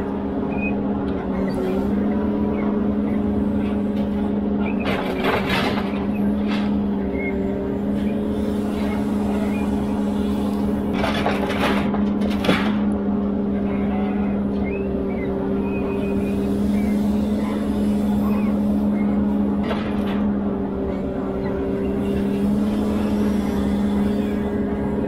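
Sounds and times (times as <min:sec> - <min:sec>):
diesel engine running: 0:00.0 - 0:25.0
hydraulic crane working: 0:00.0 - 0:25.0.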